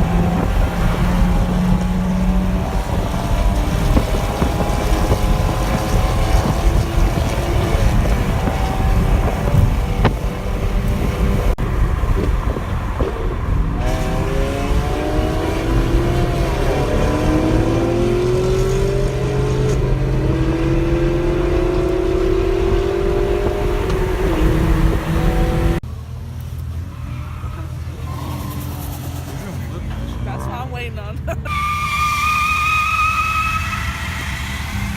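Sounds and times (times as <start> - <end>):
cars accelerating hard: 0.0 - 25.8, 26.9 - 34.9.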